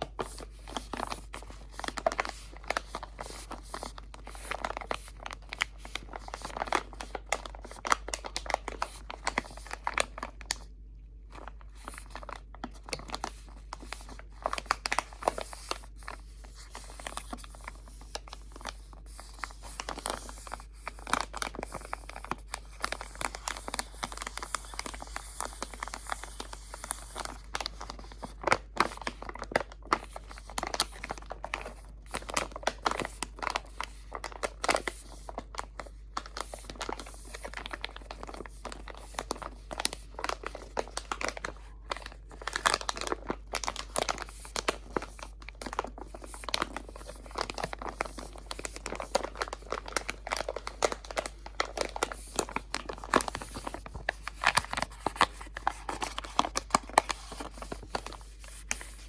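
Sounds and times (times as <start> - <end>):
crinkly material crumpling: 0.0 - 59.0.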